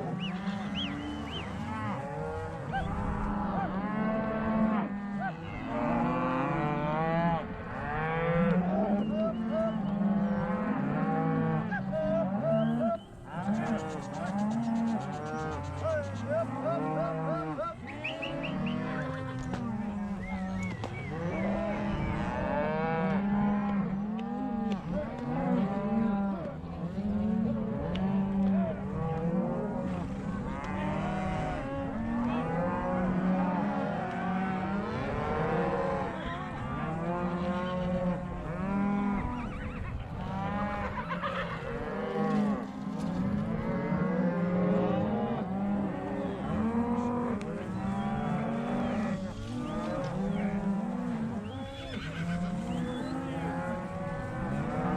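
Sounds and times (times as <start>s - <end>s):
cattle mooing and bawling: 0.0s - 54.9s.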